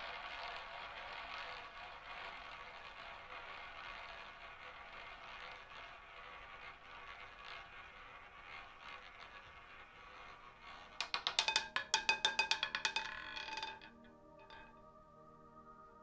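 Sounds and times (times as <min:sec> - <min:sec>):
roulette ball clattering clicks: 0:00.0 - 0:14.8
roulette ball running around wheel: 0:00.0 - 0:14.8.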